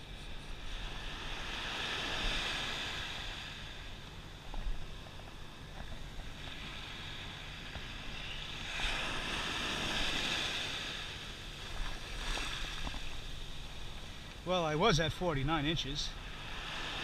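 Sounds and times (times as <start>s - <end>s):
small waves on sand beach: 0.0s - 17.0s.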